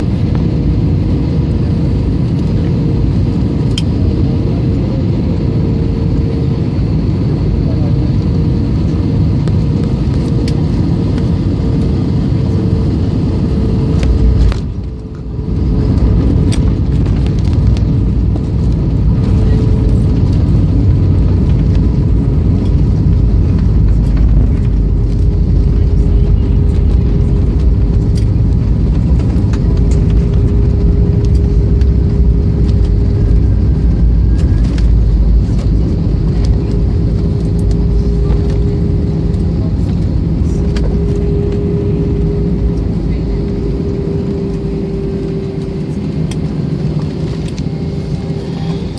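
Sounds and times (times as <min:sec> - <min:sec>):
airliner cabin rumble: 0:00.0 - 0:48.9
jet engine whine: 0:00.0 - 0:48.9.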